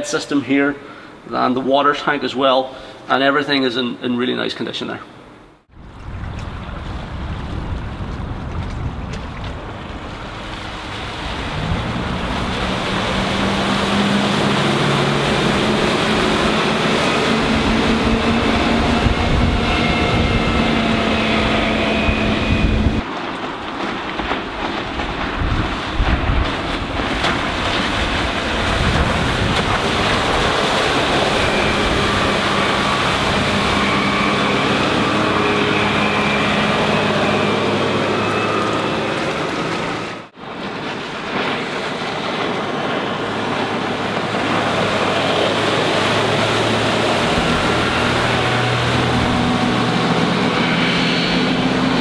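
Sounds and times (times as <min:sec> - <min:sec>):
waves washing: 0:05.6 - 0:52.0
wind on microphone: 0:05.7 - 0:23.1, 0:24.0 - 0:52.0
motorboat engine running: 0:05.7 - 0:52.0.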